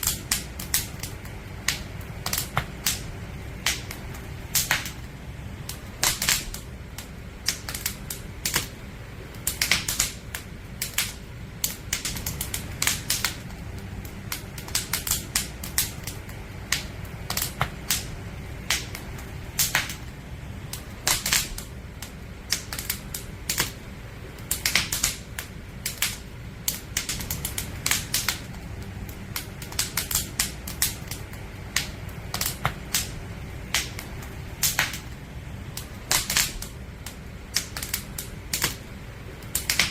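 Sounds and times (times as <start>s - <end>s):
campfire crackling: 0.0s - 39.9s
low rumble: 0.0s - 39.9s.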